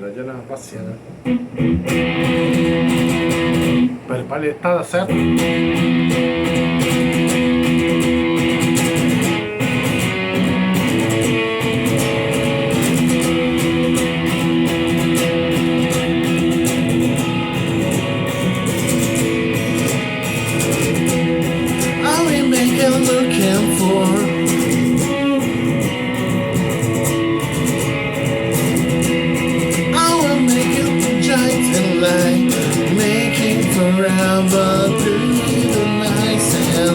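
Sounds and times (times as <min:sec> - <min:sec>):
guitar strumming: 0:01.0 - 0:04.3, 0:05.0 - 0:36.9.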